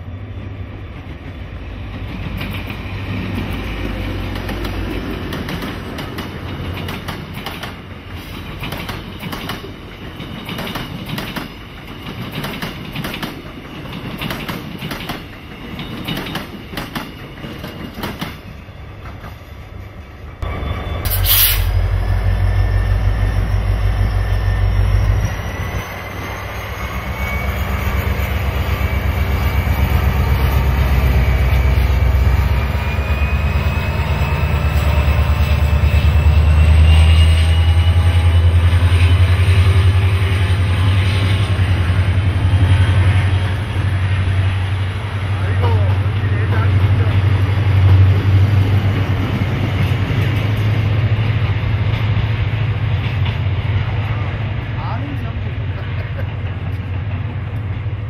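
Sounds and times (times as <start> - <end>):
deep train rumble: 0.0 - 58.0
train wheels clicking on rails: 0.9 - 19.5, 25.0 - 58.0.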